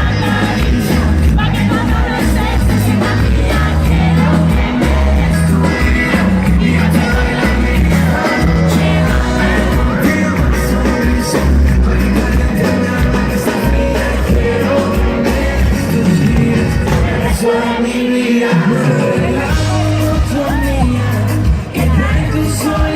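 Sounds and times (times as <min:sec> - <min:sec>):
live pop band: 0:00.0 - 0:22.9
person singing: 0:00.0 - 0:22.9.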